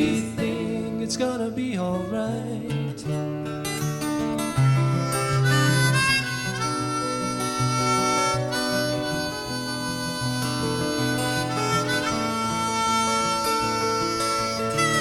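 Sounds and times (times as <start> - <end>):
harmonica melody: 0.0 - 1.0, 3.6 - 15.0
acoustic guitar: 0.0 - 15.0.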